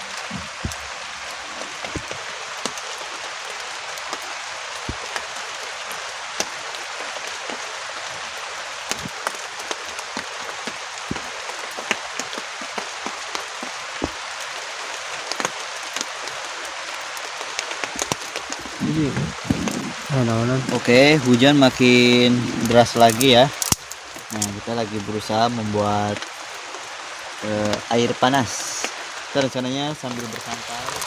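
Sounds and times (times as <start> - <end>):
heavy rain falling: 0.0 - 31.0
raindrops tapping close by: 0.0 - 31.0.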